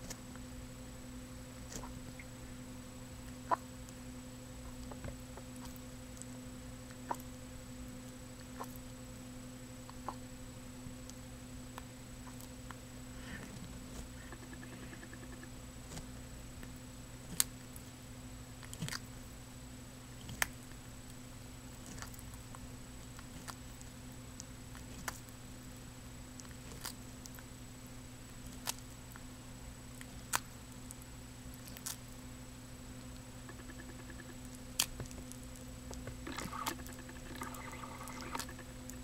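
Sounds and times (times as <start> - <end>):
steady hum: 0.0 - 39.0
turtle crunching a cockroach: 1.4 - 19.4, 20.0 - 39.0.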